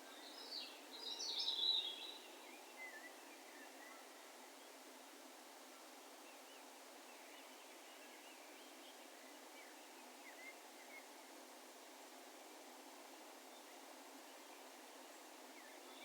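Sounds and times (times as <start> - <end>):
open-air background hiss: 0.0 - 16.0.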